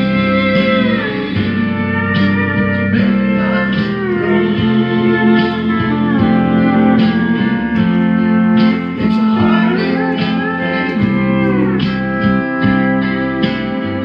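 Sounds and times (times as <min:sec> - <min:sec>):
steel guitar with sliding notes: 0:00.0 - 0:14.0.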